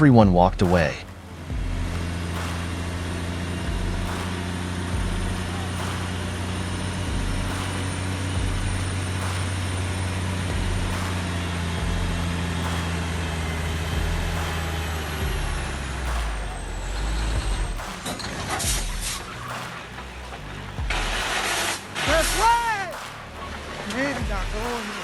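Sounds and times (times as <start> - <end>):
heavy truck engine running: 0.6 - 25.0.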